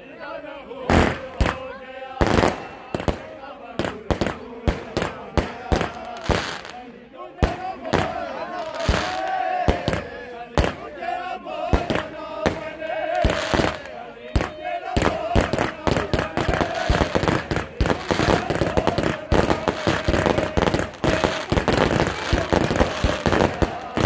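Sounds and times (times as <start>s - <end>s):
crowd shouting: 0.0s - 24.0s
fireworks bangs and crackles: 0.9s - 10.9s, 11.7s - 24.0s.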